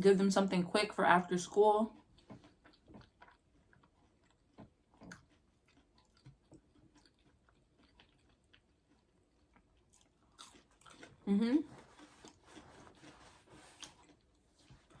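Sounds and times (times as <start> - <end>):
person chewing: 1.9 - 15.0.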